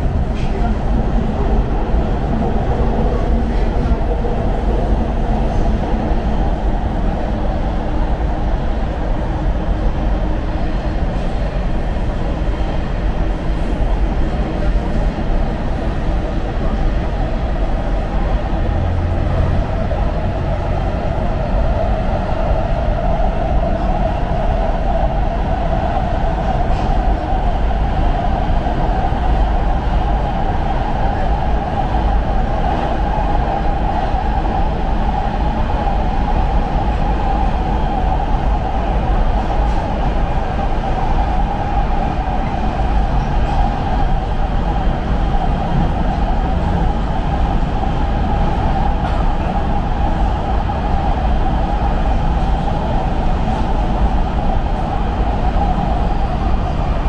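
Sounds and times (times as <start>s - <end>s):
subway train rumbling underground: 0.0s - 57.0s.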